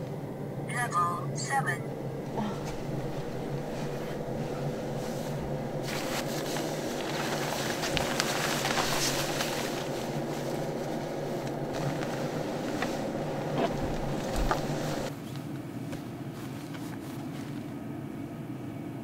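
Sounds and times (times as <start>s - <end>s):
steady low hum: 0.0s - 19.0s
fabric and gear rustling: 2.4s - 17.8s.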